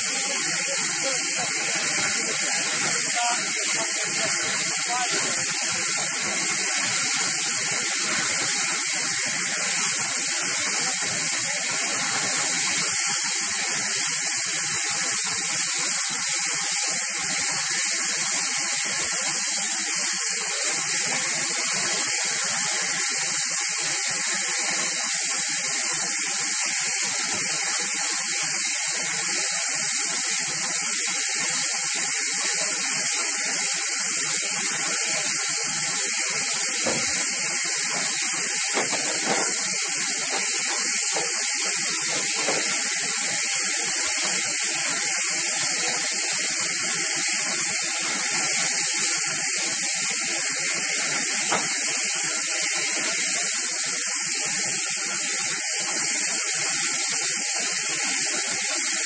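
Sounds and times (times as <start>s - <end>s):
locomotive steam hissing: 0.0s - 59.0s.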